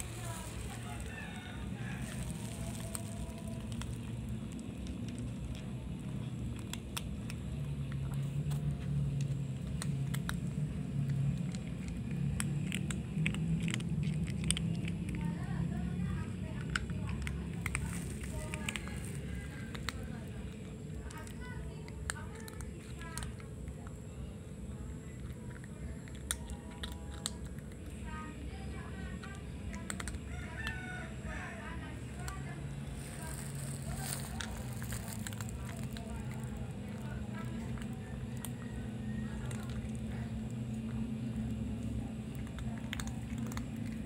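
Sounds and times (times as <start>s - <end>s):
kitten crunching kibble: 0.0s - 44.0s.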